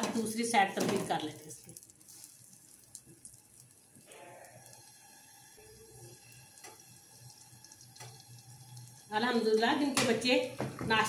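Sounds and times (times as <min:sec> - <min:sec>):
bread frying sizzle: 0:00.0 - 0:11.0.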